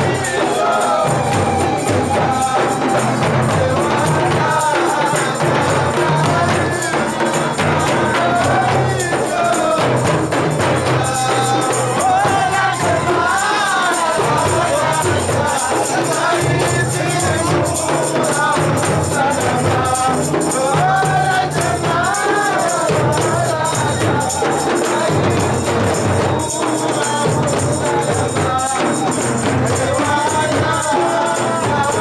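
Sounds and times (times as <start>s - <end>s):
jingling frame drums: 0.0s - 32.0s
men singing together: 0.0s - 32.0s.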